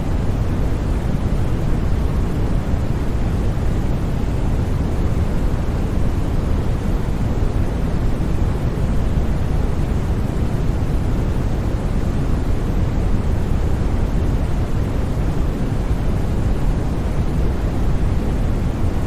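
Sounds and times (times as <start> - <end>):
low rushing white noise: 0.0 - 19.0.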